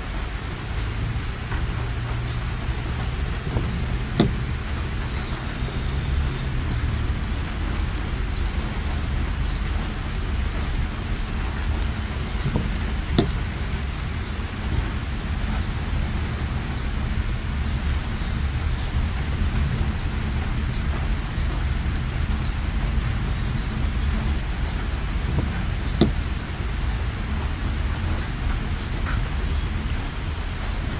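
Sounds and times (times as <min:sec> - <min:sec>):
heavy rain falling: 0:00.0 - 0:30.9.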